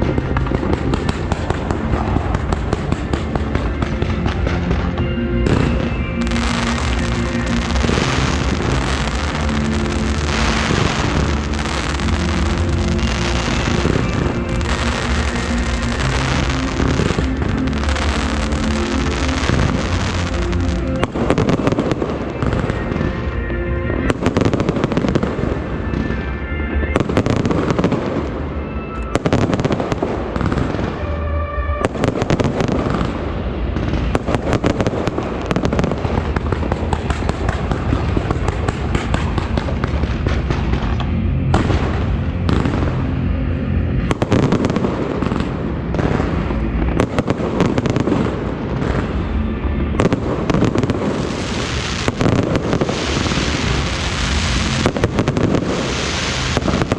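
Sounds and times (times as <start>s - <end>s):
fireworks crackling and banging: 0.0s - 56.9s
music playing: 0.0s - 56.9s.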